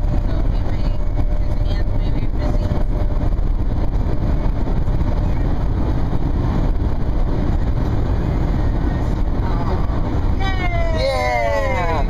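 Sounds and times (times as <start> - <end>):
road and wind rumble in car: 0.0 - 12.0.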